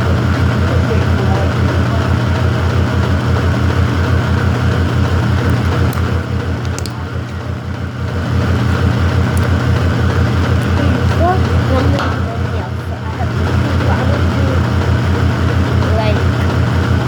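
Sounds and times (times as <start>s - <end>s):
household machine humming: 0.0s - 17.0s.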